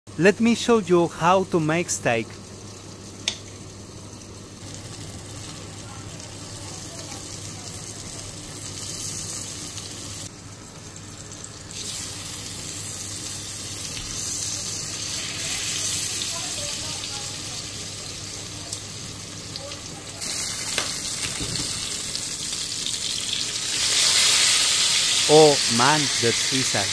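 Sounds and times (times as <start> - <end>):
steaks sizzling in butter: 4.6 - 26.9.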